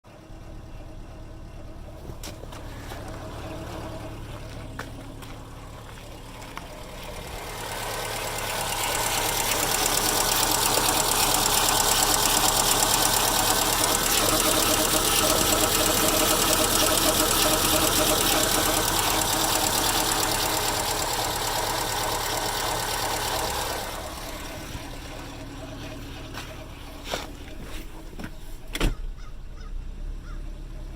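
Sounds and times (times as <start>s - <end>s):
car engine idling: 0.1s - 30.9s
rough chugging noise: 2.7s - 28.1s.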